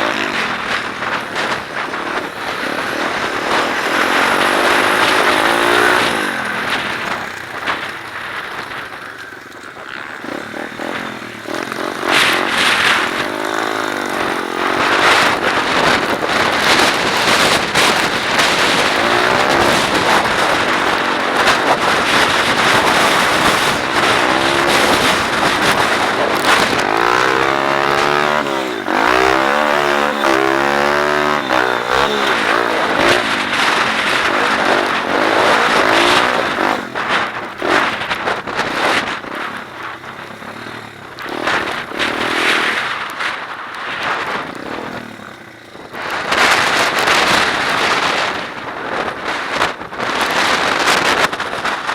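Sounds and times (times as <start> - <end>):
motorbike engine revving: 0.0 - 51.9
wind noise: 0.0 - 51.9.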